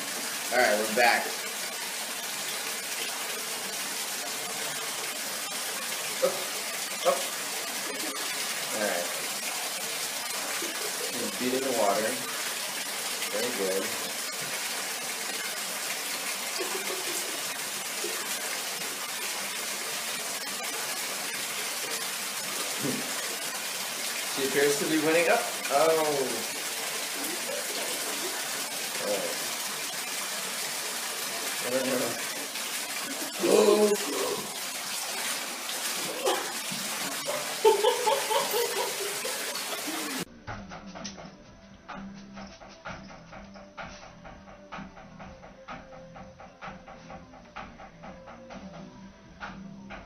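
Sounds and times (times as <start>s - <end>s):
tap water running into bathtub: 0.0s - 50.0s.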